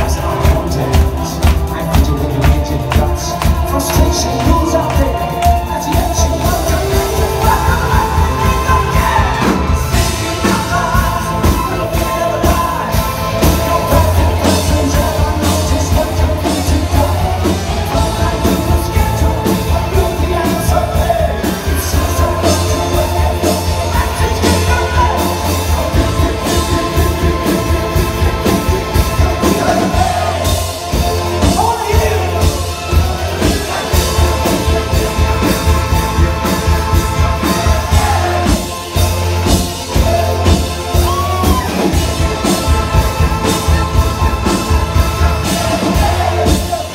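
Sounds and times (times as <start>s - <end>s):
lead singer singing: 0.0s - 46.9s
live rock band playing: 0.0s - 46.9s.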